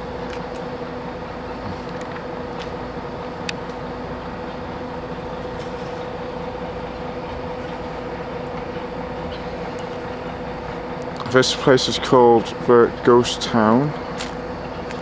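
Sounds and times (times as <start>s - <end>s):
steady droning hum: 0.0s - 15.0s.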